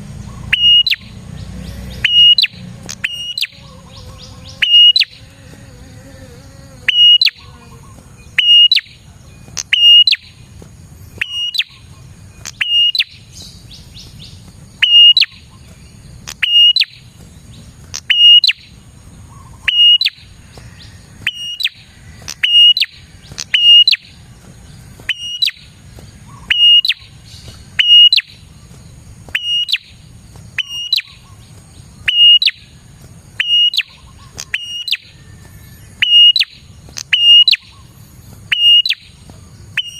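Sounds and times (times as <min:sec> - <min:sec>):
bird calling sharp notes: 0:00.2 - 0:10.5, 0:11.1 - 0:17.2, 0:17.9 - 0:39.9.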